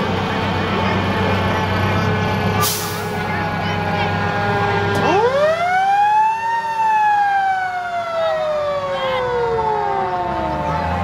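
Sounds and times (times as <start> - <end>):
fire truck siren wailing: 1.1 - 11.0.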